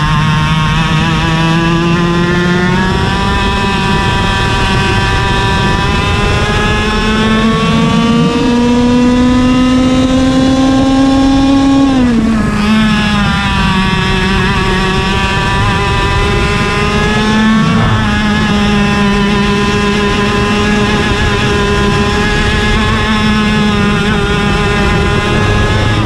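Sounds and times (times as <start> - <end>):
kart engine at full throttle: 0.0 - 26.0.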